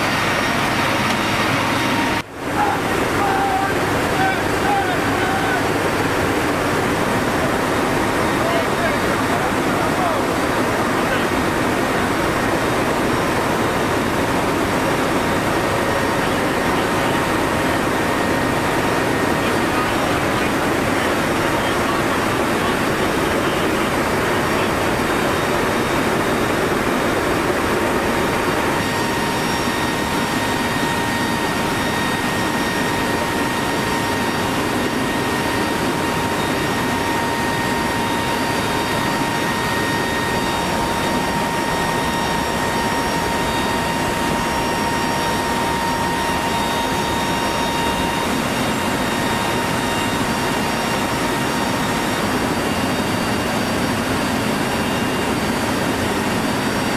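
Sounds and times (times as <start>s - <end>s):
steady high whine: 0.0s - 56.9s
turboprop engines and air rushing: 0.0s - 56.9s.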